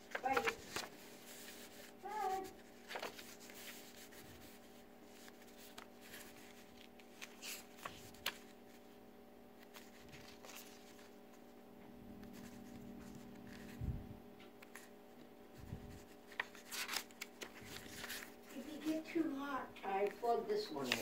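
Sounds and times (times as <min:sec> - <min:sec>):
paper pages rustling: 0:00.0 - 0:09.0, 0:09.6 - 0:11.6, 0:12.2 - 0:13.8, 0:14.6 - 0:19.3, 0:19.9 - 0:21.0
steady low hum: 0:00.0 - 0:21.0.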